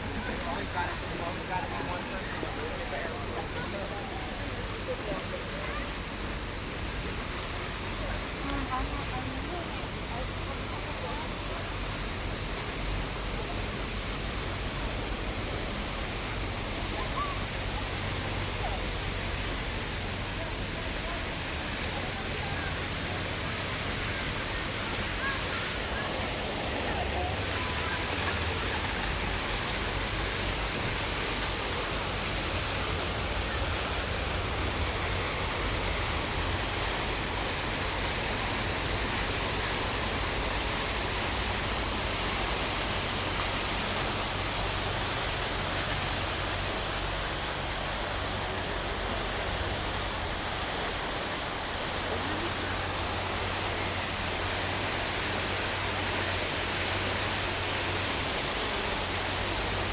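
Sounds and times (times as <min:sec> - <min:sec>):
fountain water splashing: 0:00.0 - 0:59.9
city traffic hum: 0:02.2 - 0:59.9.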